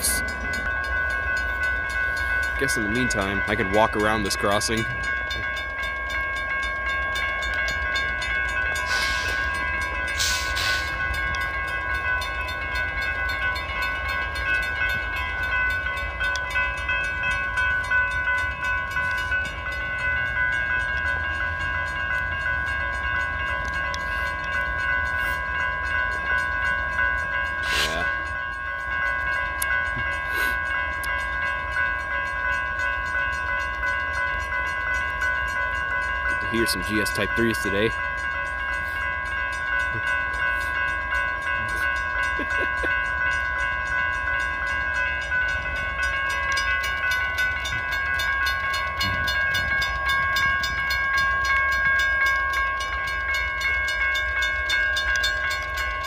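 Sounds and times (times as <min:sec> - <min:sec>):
railroad crossing bells ringing: 0:00.0 - 0:56.0.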